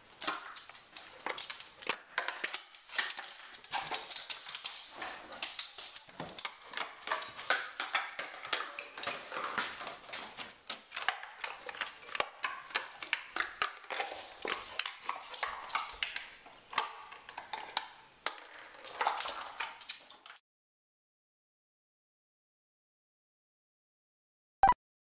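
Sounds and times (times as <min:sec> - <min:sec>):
dog claws ticking on hard floor: 0:00.2 - 0:20.4
plastic cup clicking and crackling: 0:00.2 - 0:20.4.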